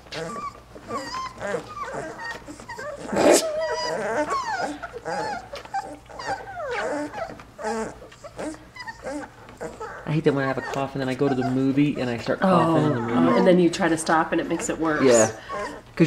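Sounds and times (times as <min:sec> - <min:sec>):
puppies squeaking and whining: 0:00.0 - 0:16.0.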